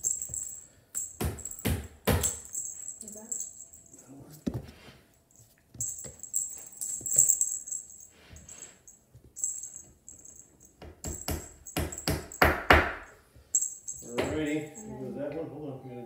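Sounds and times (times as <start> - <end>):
cat toy jingling: 0.0 - 4.1, 5.3 - 15.0.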